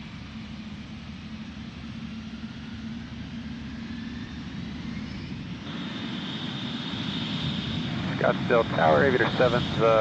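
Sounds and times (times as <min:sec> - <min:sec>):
jet engines spooling up: 0:00.1 - 0:10.0.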